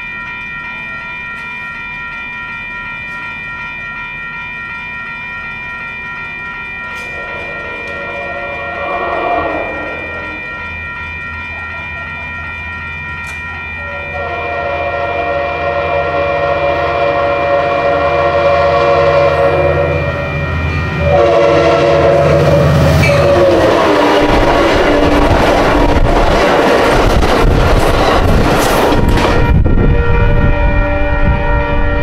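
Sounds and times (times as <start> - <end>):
crossing bell ringing: 0.0 - 32.0
train chime air horn: 0.8 - 26.9, 28.2 - 32.0
locomotive rumble: 5.6 - 32.0.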